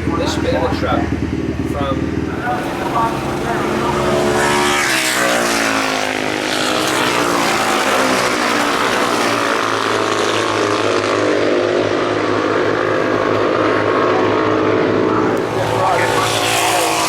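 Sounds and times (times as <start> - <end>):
racing engine running hard: 0.0 - 17.0.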